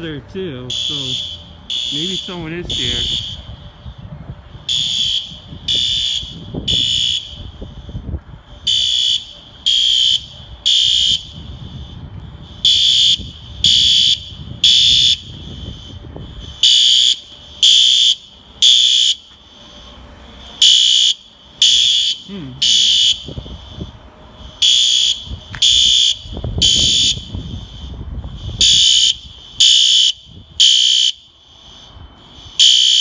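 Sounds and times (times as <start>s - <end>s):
fire alarm horn blasts: 0.0s - 33.0s.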